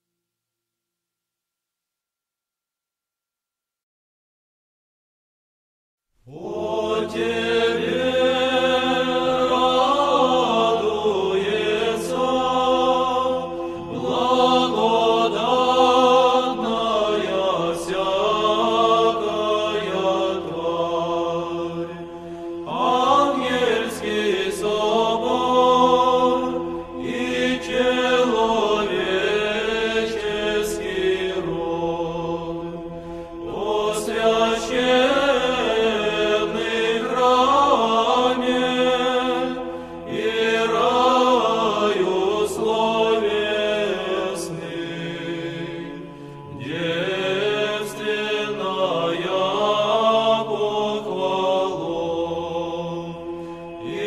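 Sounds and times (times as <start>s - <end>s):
chant sung melody: 6.2s - 54.0s.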